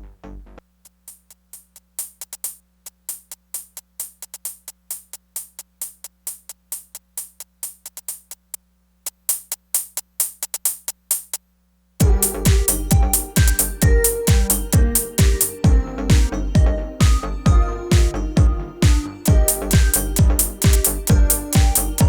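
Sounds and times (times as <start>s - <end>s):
hi-hat pattern: 0.8s - 11.4s, 12.0s - 22.0s
tech-house beat: 0.8s - 11.4s, 12.0s - 22.0s.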